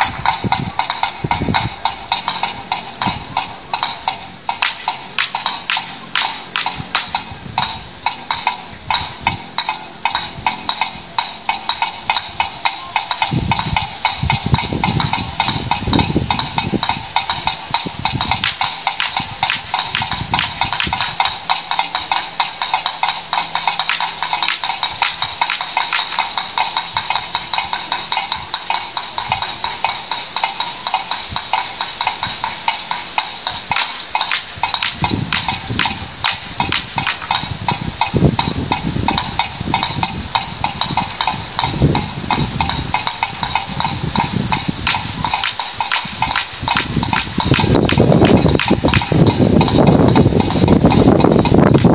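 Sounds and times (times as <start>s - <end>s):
windmill clappers knocking: 0.0s - 51.9s.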